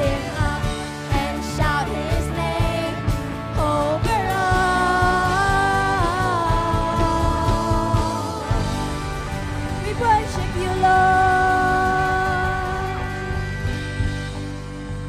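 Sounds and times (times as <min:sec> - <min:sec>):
worship band playing pop-rock: 0:00.0 - 0:15.0.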